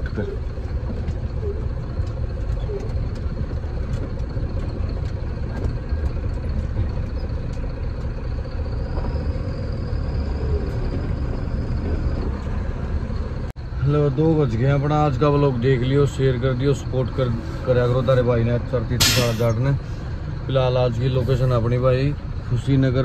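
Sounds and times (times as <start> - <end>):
truck engine at low revs: 0.0 - 23.0.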